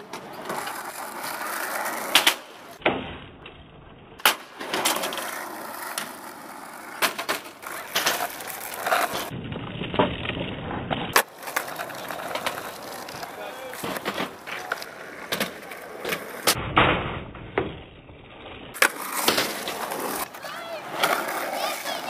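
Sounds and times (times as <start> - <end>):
skateboard deck landing: 0.0 - 3.2, 4.2 - 17.8, 18.7 - 21.9
skateboard tail popping: 0.0 - 3.2, 4.2 - 17.8, 18.7 - 22.0
skateboard wheels rolling on asphalt: 0.0 - 22.0.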